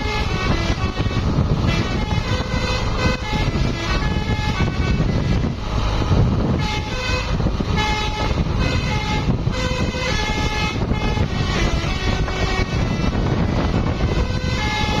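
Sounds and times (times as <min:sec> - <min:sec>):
bus engine: 0:00.0 - 0:15.0
multi-note bus horn melody: 0:00.0 - 0:15.0
road rumble: 0:00.0 - 0:15.0.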